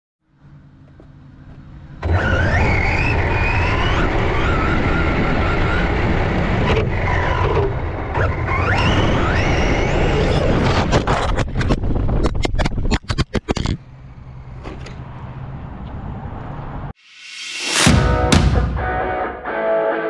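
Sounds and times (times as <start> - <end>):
tyre and road rumble: 0.3 - 16.9.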